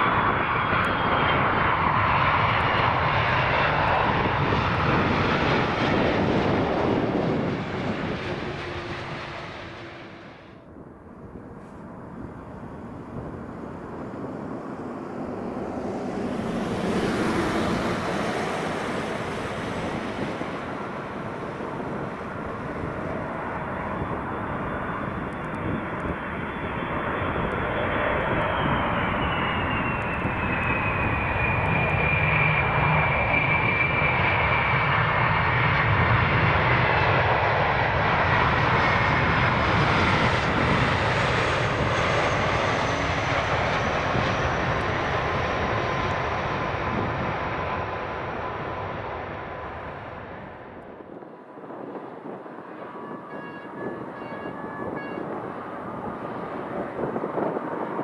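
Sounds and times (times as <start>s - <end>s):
jet airliner engines roaring past: 0.0s - 58.0s
jet engine whine falling in pitch: 0.0s - 58.0s.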